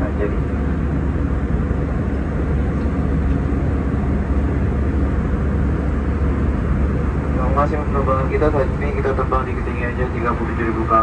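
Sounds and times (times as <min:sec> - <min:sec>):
deep constant hum: 0:00.0 - 0:11.0
jet engine and airflow rush: 0:00.0 - 0:11.0.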